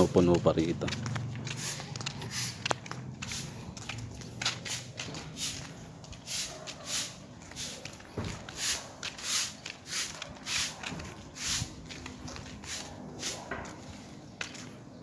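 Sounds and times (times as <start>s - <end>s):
footsteps on concrete: 0.0s - 15.0s.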